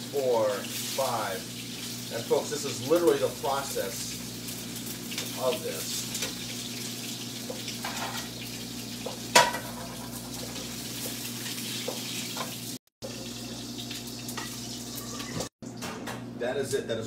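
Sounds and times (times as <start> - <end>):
fish frying hiss: 0.0 - 15.5.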